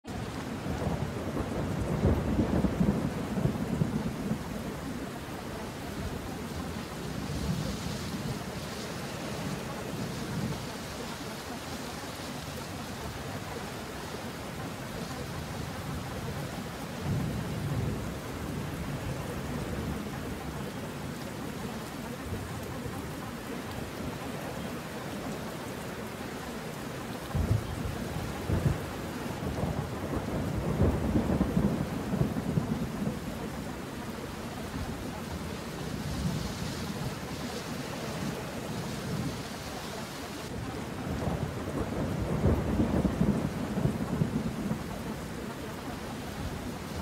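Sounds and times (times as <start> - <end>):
steady rain: 0.0 - 47.0
rolling thunder rumbles: 0.1 - 39.6, 40.4 - 47.0.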